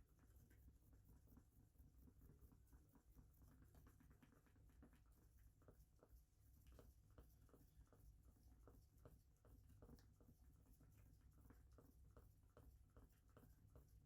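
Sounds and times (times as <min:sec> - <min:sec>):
light irregular ticks: 0:00.0 - 0:14.0.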